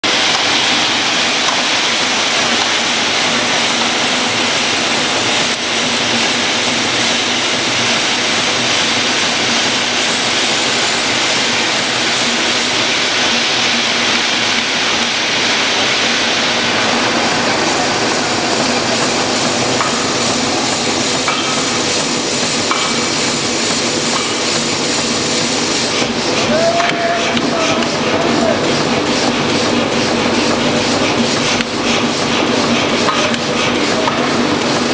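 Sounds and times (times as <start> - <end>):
furnace and machinery din: 0.0 - 34.9.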